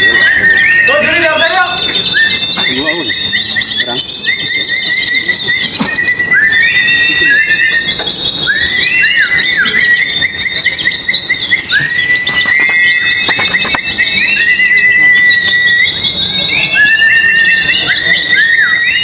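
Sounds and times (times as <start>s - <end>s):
bird whistled notes: 0.0s - 19.0s
birds chattering trills: 0.0s - 19.0s.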